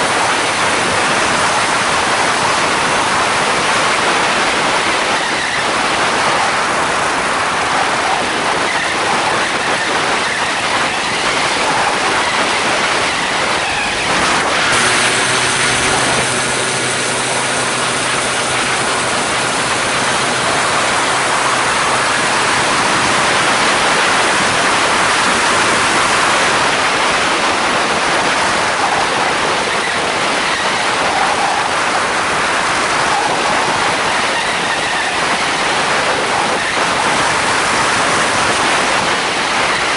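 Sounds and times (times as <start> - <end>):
two-stroke engine and propeller: 0.0 - 39.9
wind rush on microphone: 0.0 - 39.9.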